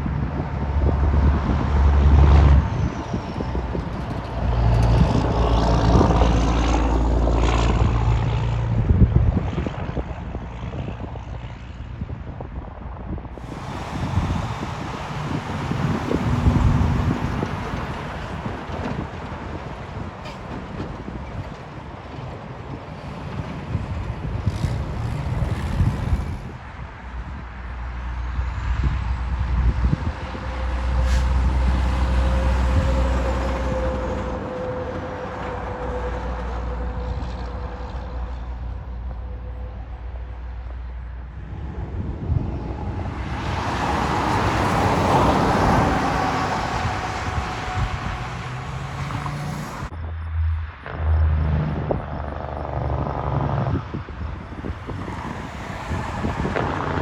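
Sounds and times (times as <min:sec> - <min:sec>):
trucks driving past: 0:00.0 - 0:57.0.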